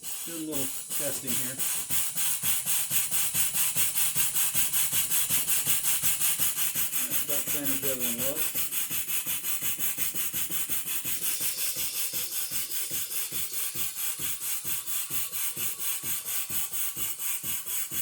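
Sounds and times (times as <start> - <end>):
saw blade cutting wood: 0.0 - 18.0
steam engine chuffing: 0.0 - 18.0.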